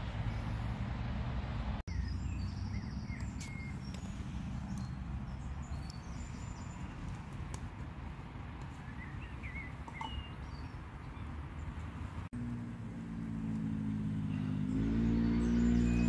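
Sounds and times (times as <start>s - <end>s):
distant road traffic rumble: 0.0s - 16.0s
birds chirping: 1.9s - 16.0s.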